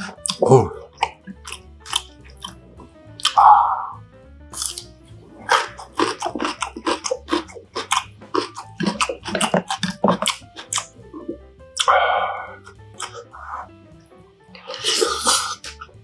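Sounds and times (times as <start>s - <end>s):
person chewing food: 0.0s - 13.7s, 14.6s - 16.0s.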